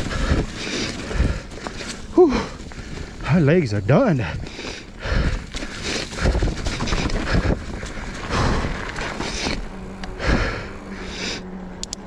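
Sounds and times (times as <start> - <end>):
person breathing hard: 0.0 - 3.2, 4.2 - 11.5
wind buffeting microphone: 0.0 - 10.6.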